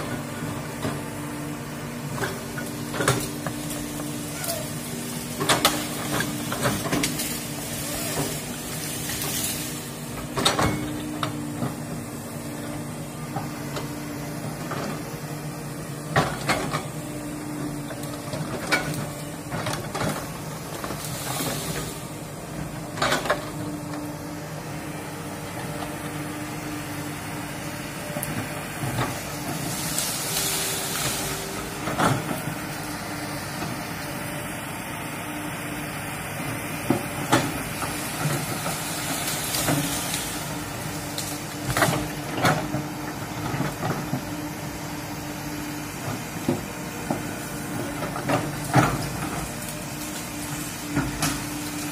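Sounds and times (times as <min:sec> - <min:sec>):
excavator diesel engine: 0:00.0 - 0:51.9.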